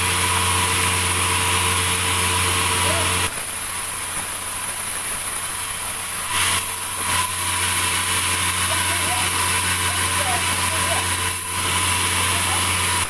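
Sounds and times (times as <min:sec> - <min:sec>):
sawmill machinery humming: 0:00.0 - 0:13.0.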